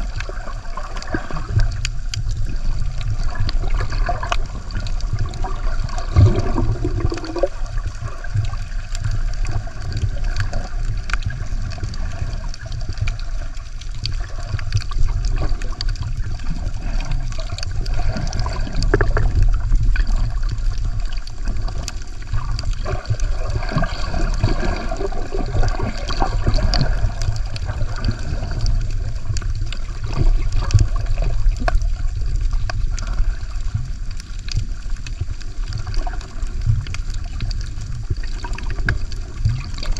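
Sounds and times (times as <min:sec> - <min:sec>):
steady low rumble: 0:00.0 - 0:39.9
water sloshing and gurgling: 0:00.0 - 0:39.9
small scattered clicks: 0:01.0 - 0:06.1, 0:07.1 - 0:24.8, 0:25.6 - 0:39.9.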